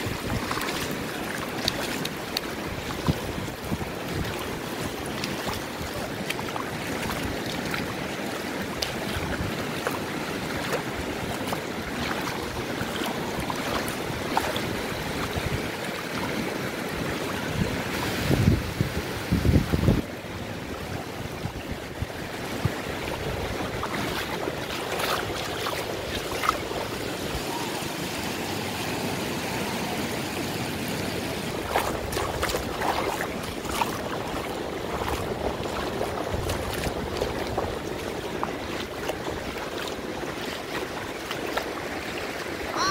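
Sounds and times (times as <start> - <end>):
wind on microphone: 0.0 - 27.7, 31.3 - 41.0
small waves lapping at shore: 0.0 - 42.9.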